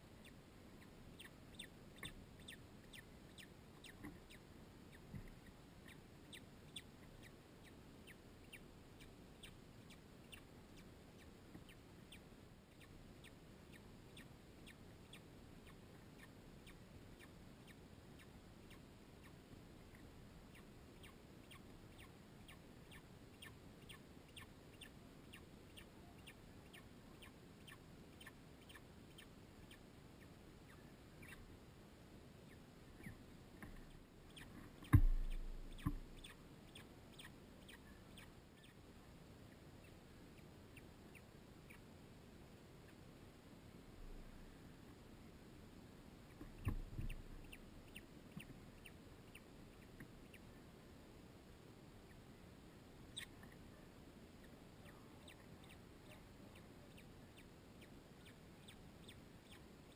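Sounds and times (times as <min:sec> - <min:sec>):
bird chick peeping: 0:00.0 - 0:43.3, 0:46.2 - 0:50.7, 0:51.9 - 0:59.9.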